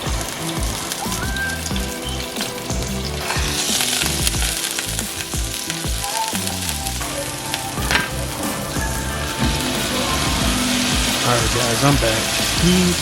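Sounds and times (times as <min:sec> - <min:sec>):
food frying sizzle: 0:00.0 - 0:13.0.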